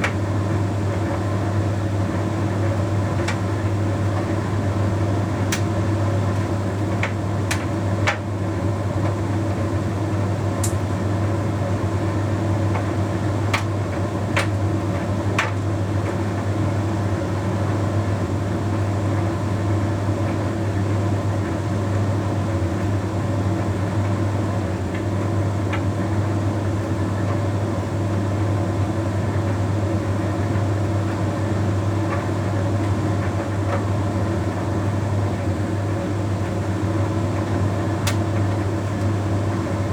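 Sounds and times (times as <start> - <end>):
tumble dryer humming: 0.0 - 18.3, 22.9 - 39.9.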